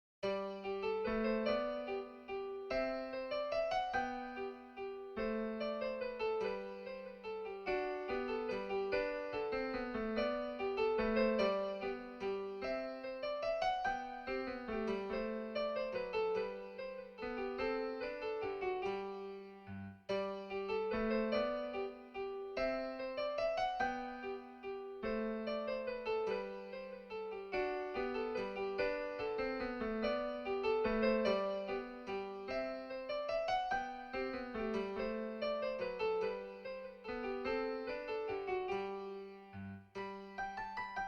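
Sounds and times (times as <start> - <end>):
piano music with quick notes: 0.2 - 41.0.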